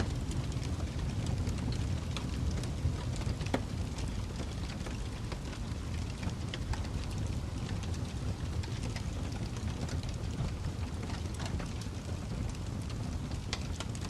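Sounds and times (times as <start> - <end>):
fire crackling and snapping: 0.0 - 14.0
low steady fire rumble: 0.0 - 14.0.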